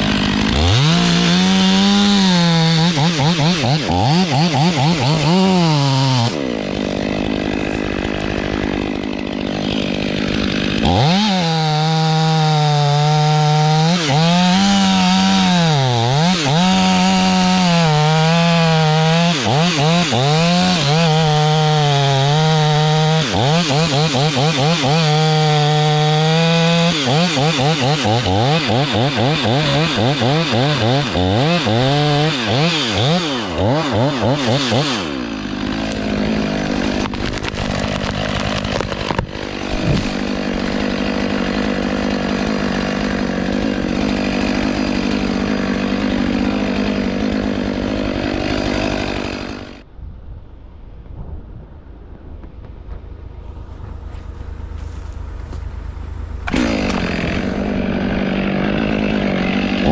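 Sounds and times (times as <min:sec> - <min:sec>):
chainsaw cutting wood: 0:00.0 - 0:49.9, 0:53.4 - 0:59.9.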